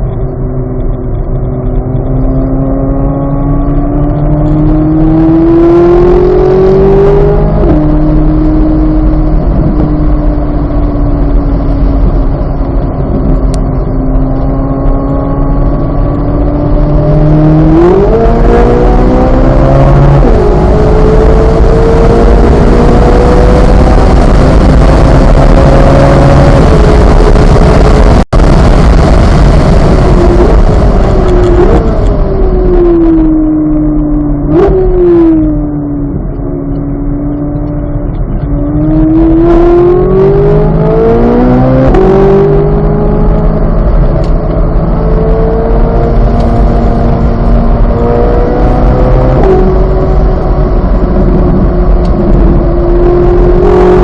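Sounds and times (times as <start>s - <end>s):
engine throttle blips: 0.0s - 54.0s
sports car engine revving: 0.0s - 54.0s.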